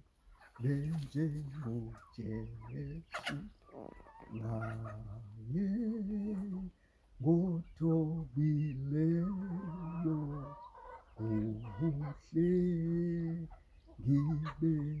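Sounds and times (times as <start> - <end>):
man singing a hymn: 0.6 - 3.6, 4.3 - 15.0.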